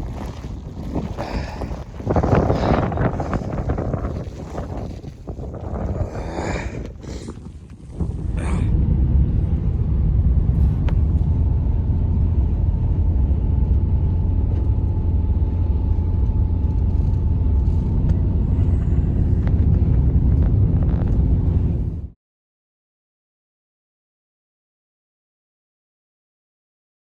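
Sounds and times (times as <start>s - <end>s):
blizzard wind rumbling: 0.0s - 22.2s.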